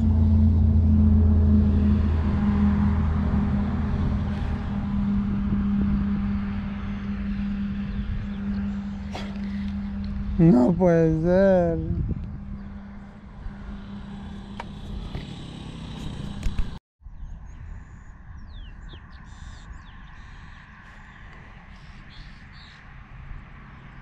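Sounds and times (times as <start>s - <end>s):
steady low rumble: 0.0s - 20.2s
birds chirping: 4.0s - 24.0s.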